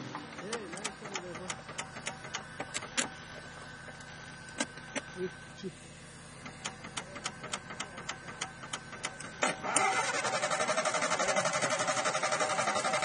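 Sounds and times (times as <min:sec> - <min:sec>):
engine cranking and starting: 0:00.0 - 0:05.2, 0:06.3 - 0:13.0.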